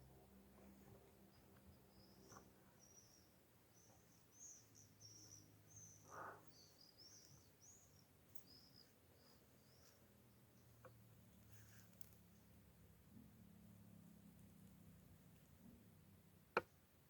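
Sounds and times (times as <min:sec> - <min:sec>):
soft rustle: 0:00.0 - 0:16.1.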